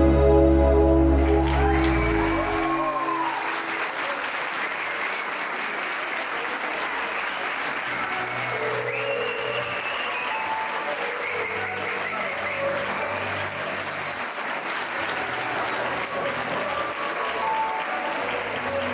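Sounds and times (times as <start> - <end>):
music: 0.0 - 4.7, 6.8 - 18.9
crowd clapping: 0.8 - 18.9.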